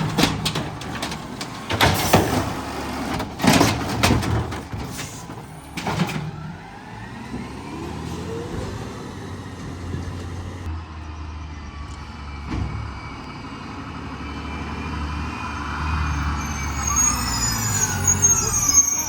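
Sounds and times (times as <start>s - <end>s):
diesel engine running: 0.0s - 16.8s.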